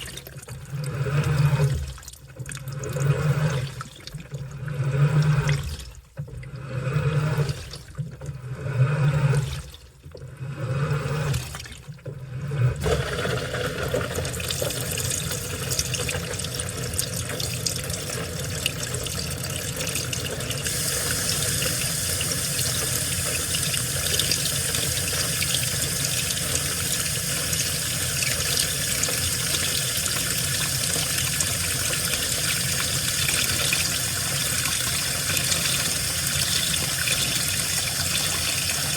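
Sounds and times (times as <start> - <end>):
water pouring in: 0.0 - 10.4, 11.0 - 38.9
water splashing in washing machine: 0.0 - 38.9.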